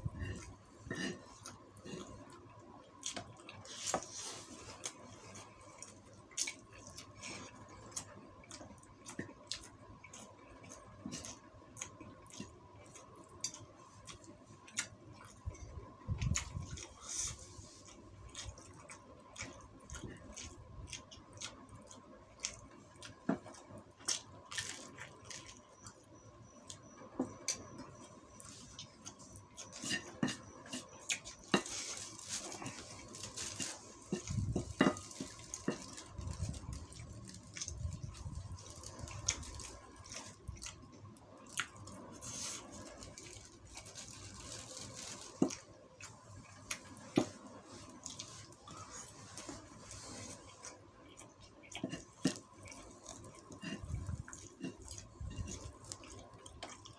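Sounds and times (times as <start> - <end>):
faint steady hum: 0.0 - 56.9
chewing: 0.2 - 56.9.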